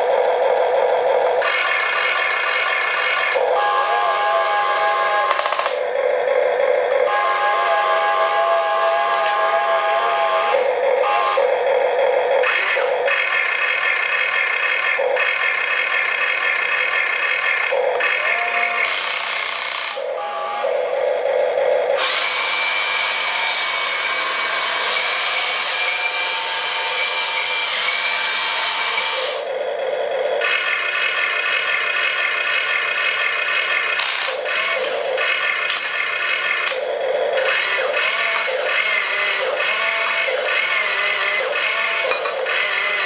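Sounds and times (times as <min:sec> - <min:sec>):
electric motors whining: 0:00.0 - 0:43.0.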